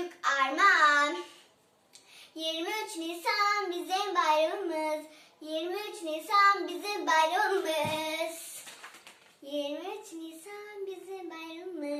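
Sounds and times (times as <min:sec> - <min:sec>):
girl singing unaccompanied: 0:00.0 - 0:01.4, 0:02.3 - 0:08.6, 0:09.4 - 0:11.9.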